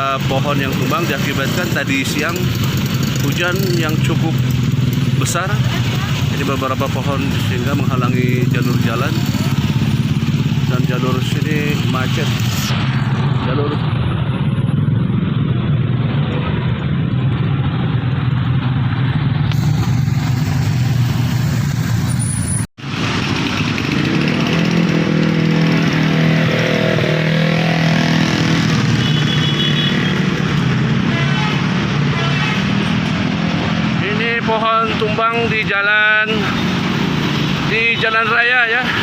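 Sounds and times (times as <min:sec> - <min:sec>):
vehicle engines in traffic: 0:00.0 - 0:39.0.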